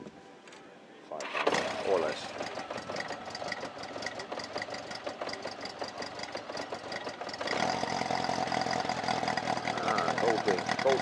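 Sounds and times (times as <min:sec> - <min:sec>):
motorcycle engine idling: 0:01.2 - 0:11.0.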